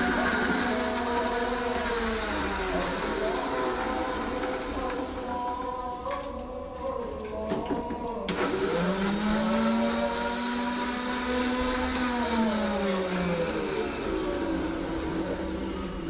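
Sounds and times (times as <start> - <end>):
mixer grinder motor whine: 0.0 - 6.4, 8.2 - 16.0.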